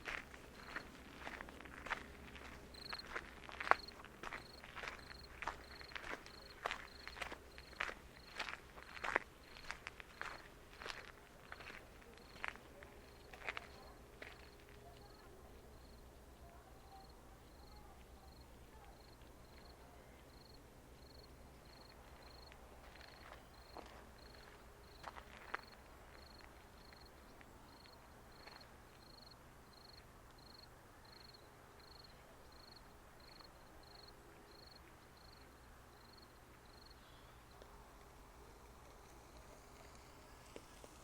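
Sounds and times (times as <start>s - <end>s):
cricket chirping: 0.1s - 16.1s, 16.8s - 37.6s.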